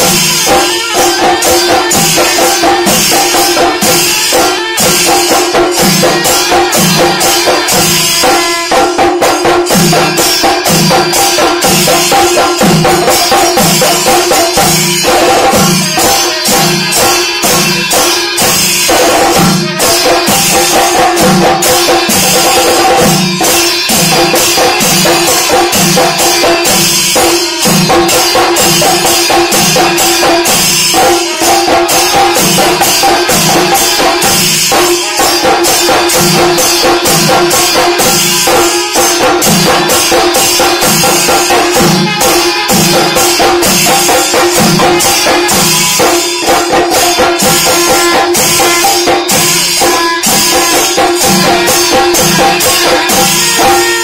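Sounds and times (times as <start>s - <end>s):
drum ensemble beating rapidly: 0.0s - 54.0s
jingling cymbals: 0.0s - 54.0s.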